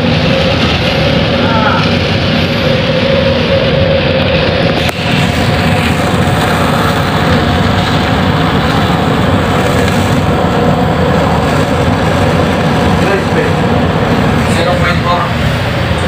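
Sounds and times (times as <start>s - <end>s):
heavy rain and wind: 0.0s - 16.0s
ship machinery rumbling: 0.0s - 16.0s.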